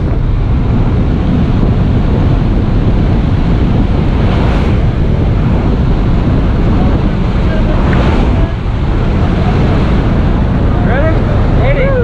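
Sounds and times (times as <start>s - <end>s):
wind rushing through plane door: 0.0s - 10.8s
aircraft engine: 0.0s - 12.0s.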